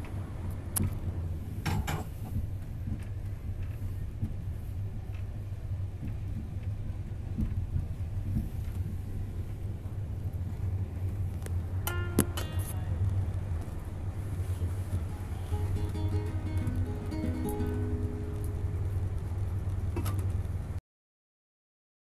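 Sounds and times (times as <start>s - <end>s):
train rumble inside carriage: 0.0s - 20.8s.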